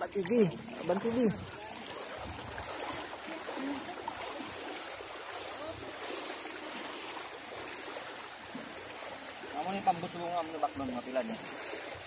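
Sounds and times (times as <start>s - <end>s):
water rushing along boat hull: 0.0s - 12.0s.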